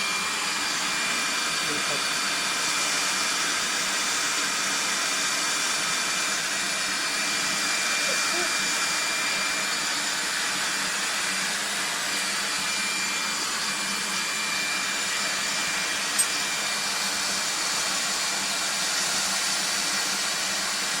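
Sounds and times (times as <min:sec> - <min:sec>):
vacuum cleaner whining: 0:00.0 - 0:21.0.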